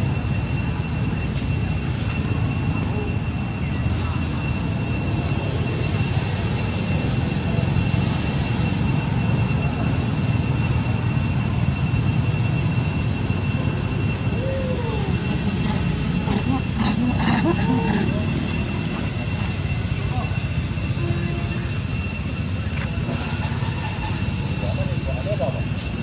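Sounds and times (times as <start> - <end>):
high-pitched whine: 0.0 - 26.0.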